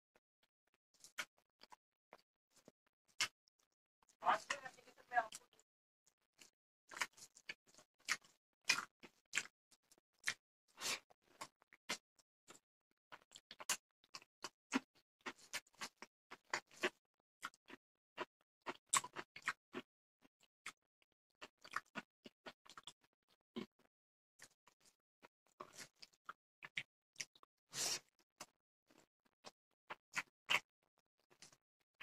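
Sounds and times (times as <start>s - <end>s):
chewing and lip-smacking: 1.0s - 31.6s.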